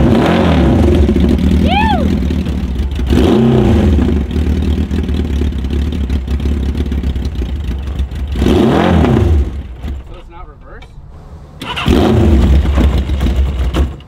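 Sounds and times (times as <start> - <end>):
vehicle engine revving: 0.0 - 10.0, 11.1 - 14.0.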